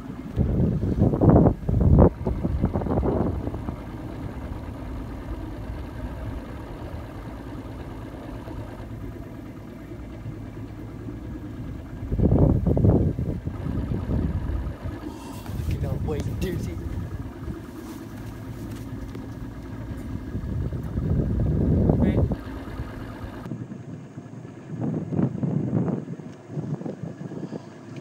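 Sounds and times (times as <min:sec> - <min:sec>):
boat motor idling: 0:00.0 - 0:28.0
wind buffeting microphone: 0:00.0 - 0:28.0.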